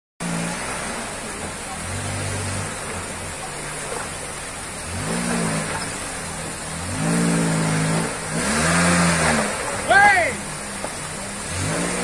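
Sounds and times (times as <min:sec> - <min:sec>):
car engine revving under load: 0:00.2 - 0:12.0
stream rushing: 0:00.2 - 0:12.0.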